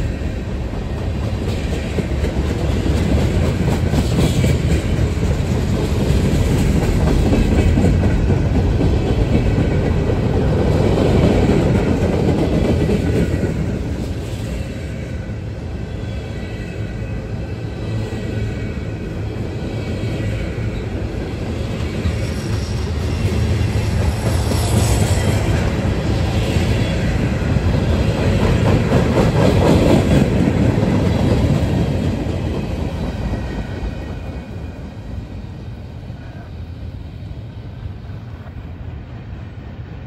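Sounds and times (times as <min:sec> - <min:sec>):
freight cars rolling on rails: 0:00.0 - 0:40.0.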